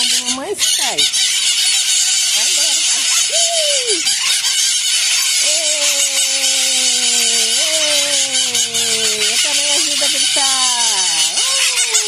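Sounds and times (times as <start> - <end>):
parakeets screeching and chattering: 0.0 - 12.0.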